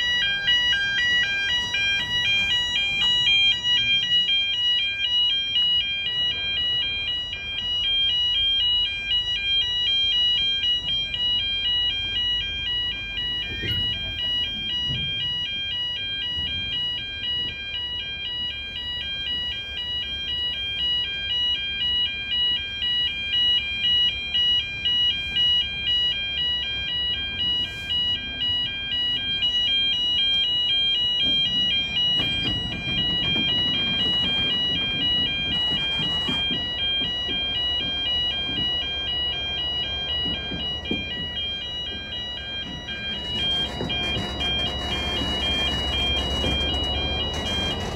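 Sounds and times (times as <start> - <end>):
train wagons rumbling and clattering: 0.0 - 9.4, 10.0 - 47.9
diesel locomotive engine: 0.0 - 47.9
level crossing alarm warble: 0.0 - 47.9.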